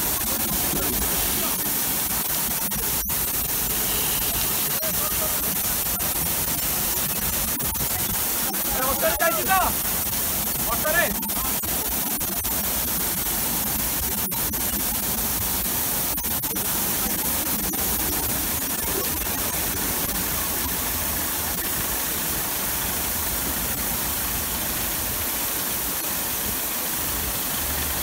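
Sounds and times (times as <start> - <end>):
water jets spraying wheels: 0.0 - 28.0.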